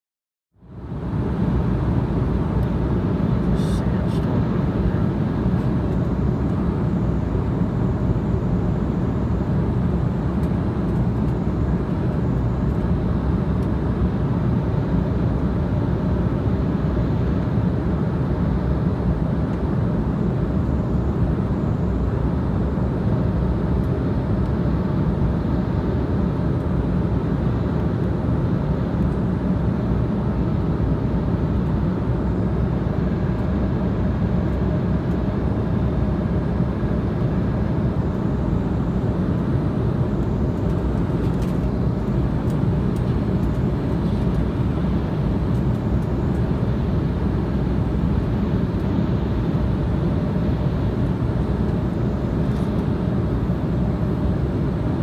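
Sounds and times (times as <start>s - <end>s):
airliner cabin engine rumble: 0.7s - 55.0s.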